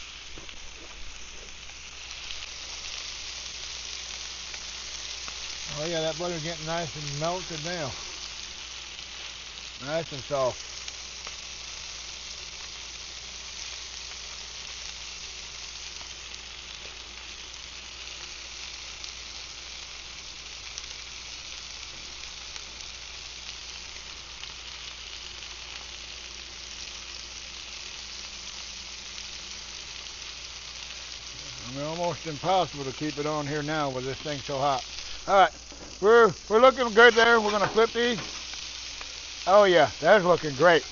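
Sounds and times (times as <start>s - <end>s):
fish sizzling in butter: 0.0s - 40.9s.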